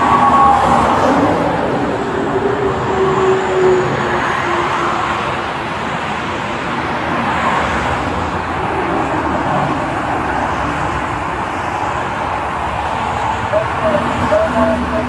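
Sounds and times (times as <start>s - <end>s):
highway traffic rushing past: 0.0s - 15.0s.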